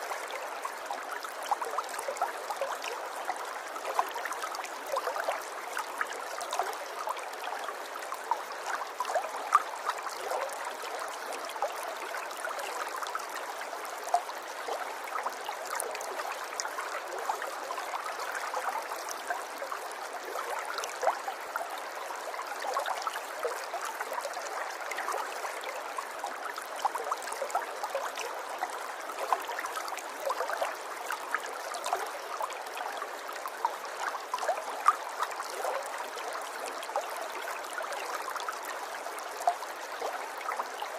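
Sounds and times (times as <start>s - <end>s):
river water babbling over stones: 0.0s - 40.9s.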